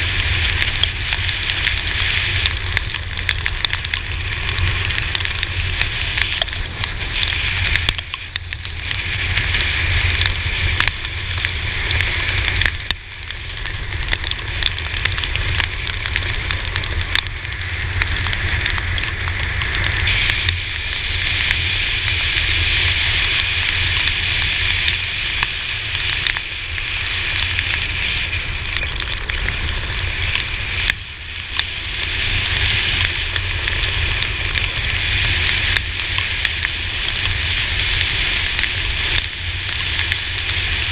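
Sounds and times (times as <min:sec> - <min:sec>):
raindrops ticking on camera housing: 0:00.0 - 0:40.9
tyres hissing on wet road: 0:00.0 - 0:40.9
wind rumble: 0:00.0 - 0:40.9.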